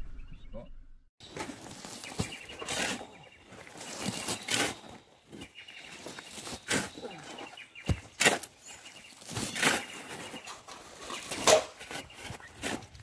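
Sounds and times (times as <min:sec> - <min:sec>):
shovel digging dry dirt: 0:01.3 - 0:13.0.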